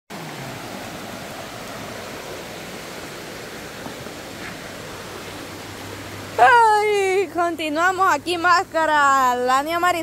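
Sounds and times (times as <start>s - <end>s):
river rushing over rocks: 0.1s - 10.0s.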